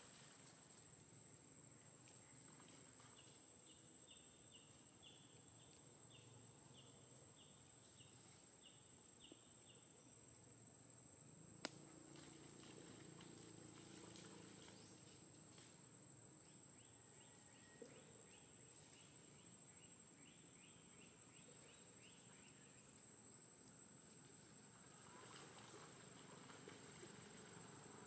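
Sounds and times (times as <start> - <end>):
insects whining: 0.0 - 28.0.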